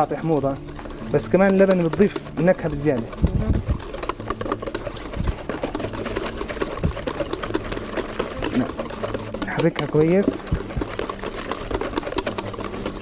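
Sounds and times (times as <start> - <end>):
utensil beating mixture in metal bowl: 0.0 - 13.0.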